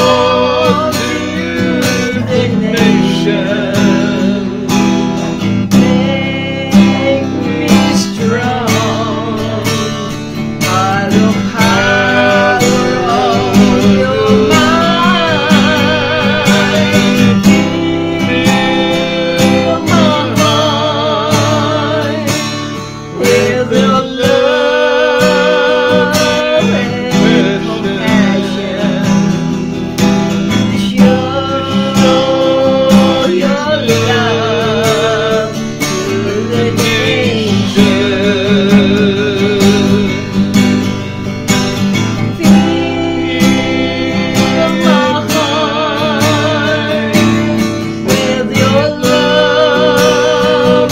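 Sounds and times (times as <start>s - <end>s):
man singing: 0.0s - 50.9s
strummed acoustic guitar: 0.0s - 50.9s
woman singing: 5.7s - 22.5s, 23.1s - 29.2s, 30.7s - 40.4s, 42.3s - 50.9s.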